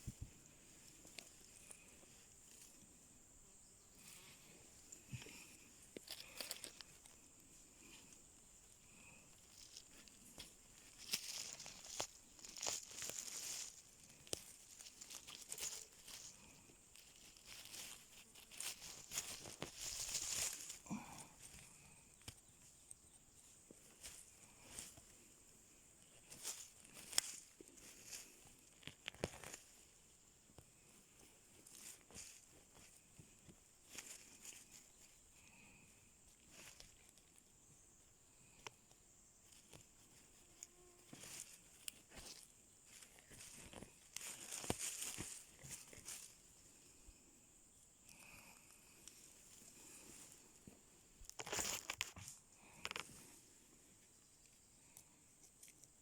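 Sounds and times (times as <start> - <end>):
grass and leaves rustling: 0.0 - 56.0.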